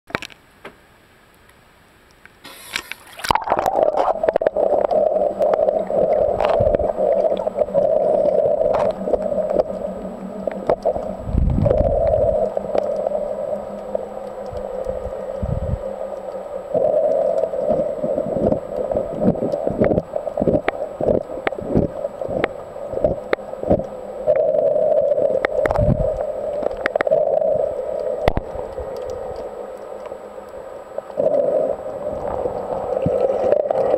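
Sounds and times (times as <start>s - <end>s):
clicks underwater: 2.5s - 33.9s
muffled underwater gurgling: 2.5s - 33.9s.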